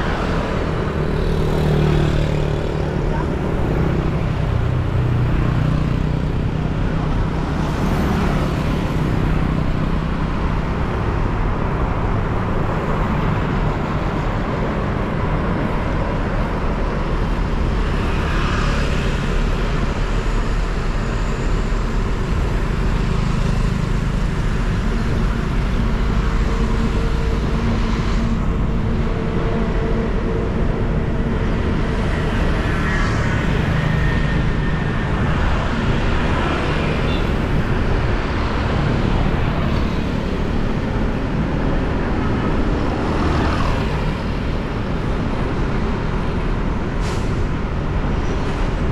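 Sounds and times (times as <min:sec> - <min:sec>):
motorcycle engine and road hum: 0:00.0 - 0:48.9
vehicles passing: 0:00.0 - 0:48.9.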